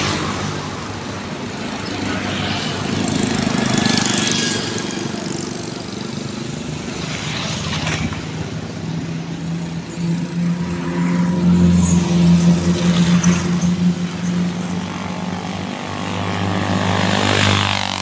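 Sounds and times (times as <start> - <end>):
motorcycles passing on highway: 0.0 - 18.0.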